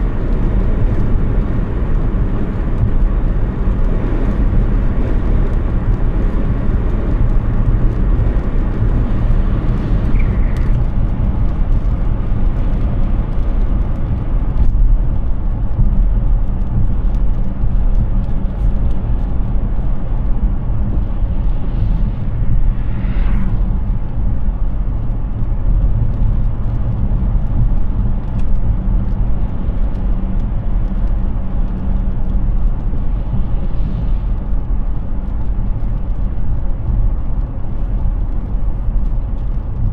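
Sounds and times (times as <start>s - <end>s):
heavy low rumble: 0.0s - 39.9s
tyre and wind noise: 0.0s - 39.9s.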